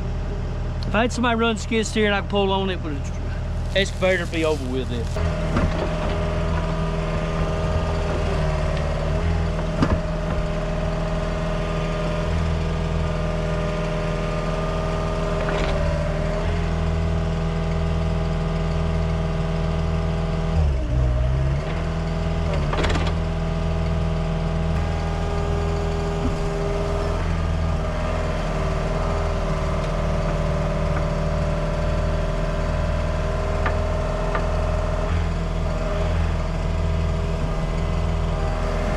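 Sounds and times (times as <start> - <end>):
heavy equipment engine running: 0.0 - 38.9.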